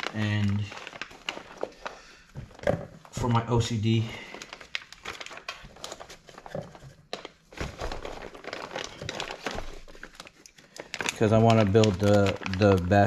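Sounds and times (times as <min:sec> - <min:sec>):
wrapping crinkling and clicking: 0:00.0 - 0:13.0.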